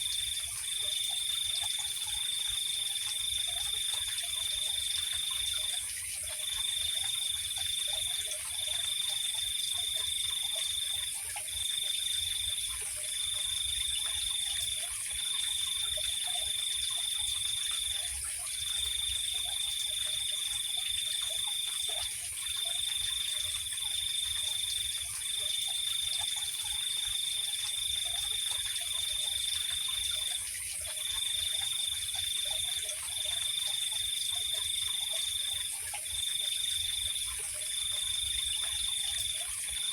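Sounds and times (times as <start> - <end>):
insect high steady trill: 0.0 - 39.9.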